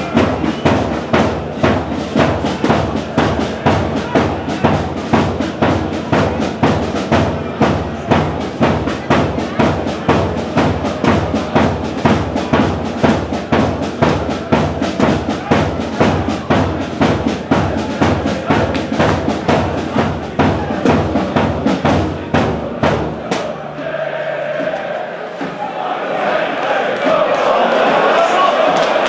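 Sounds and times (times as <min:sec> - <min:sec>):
background music with drum beat: 0:00.0 - 0:25.6.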